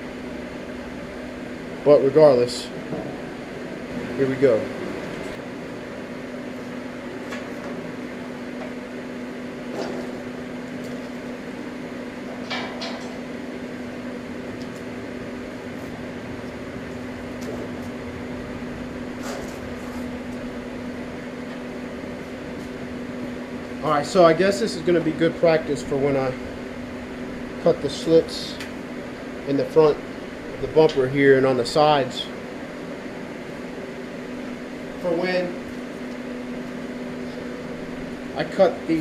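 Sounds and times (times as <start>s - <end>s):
electrical machine hum: 0.0s - 39.0s.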